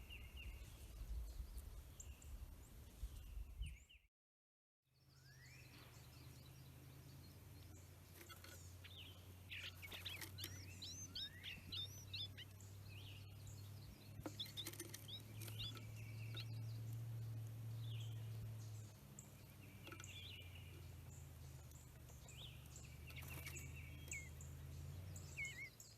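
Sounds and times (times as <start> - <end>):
songbirds calling and singing: 0.0 - 4.1, 4.9 - 25.9.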